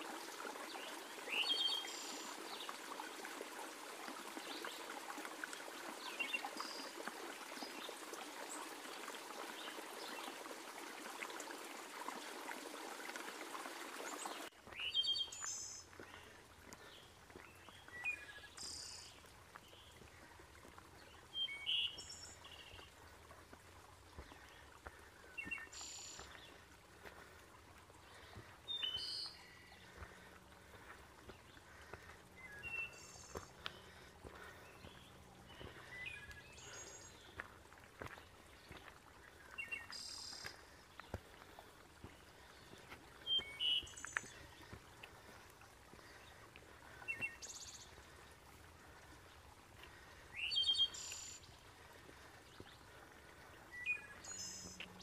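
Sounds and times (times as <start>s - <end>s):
wild birds chirping: 0.2s - 23.2s, 24.0s - 55.0s.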